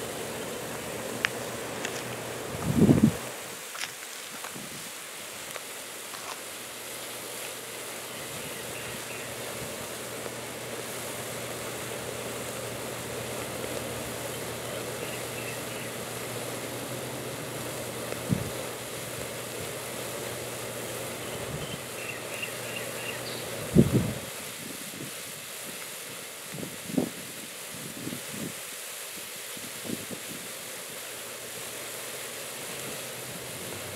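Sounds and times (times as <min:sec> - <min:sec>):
brine boiling with bubbling hiss: 0:00.0 - 0:33.9.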